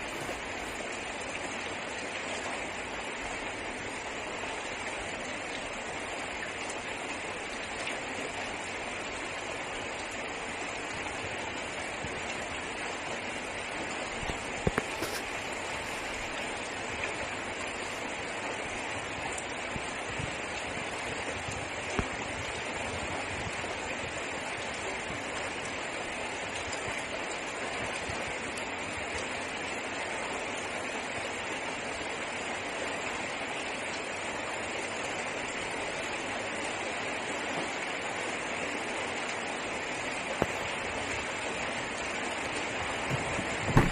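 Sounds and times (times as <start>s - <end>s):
heavy rain on car roof: 0.0s - 43.9s.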